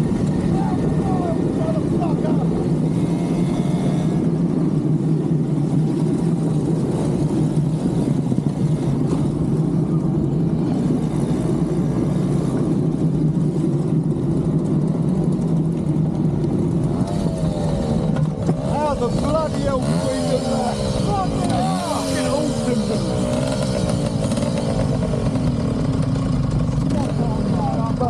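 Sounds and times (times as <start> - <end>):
moped engine droning: 0.0 - 28.0
road and wind noise: 0.0 - 28.0.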